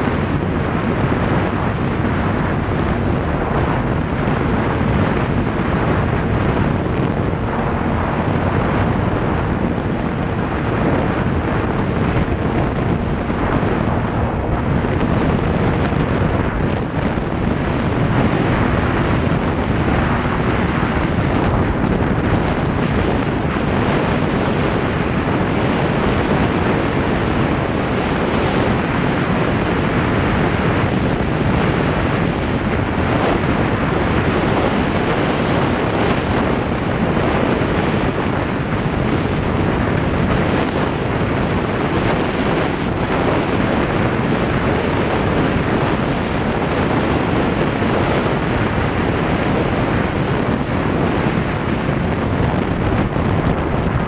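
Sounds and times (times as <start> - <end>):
snowmobile engine running: 0.0 - 54.0
wind buffeting microphone: 0.0 - 54.0.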